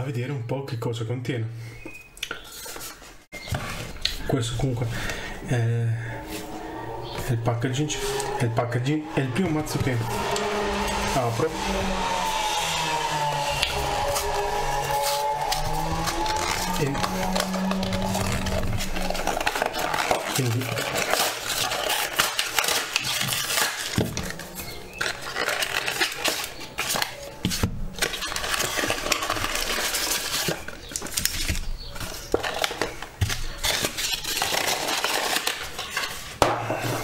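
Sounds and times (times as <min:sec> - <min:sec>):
cardboard packaging rustling: 0:06.1 - 0:37.0.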